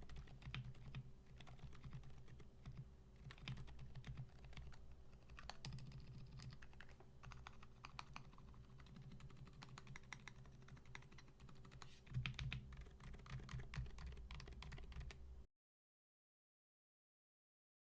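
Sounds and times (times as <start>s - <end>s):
quiet mechanical keyboard typing: 0.0s - 15.2s.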